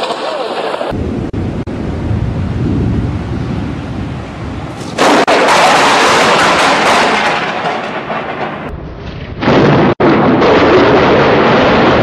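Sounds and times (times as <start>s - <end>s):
thunder rumbling and cracking: 0.0s - 12.0s.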